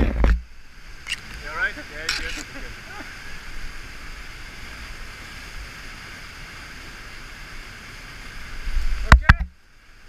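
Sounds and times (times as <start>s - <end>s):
river whitewater rushing: 0.5s - 10.0s.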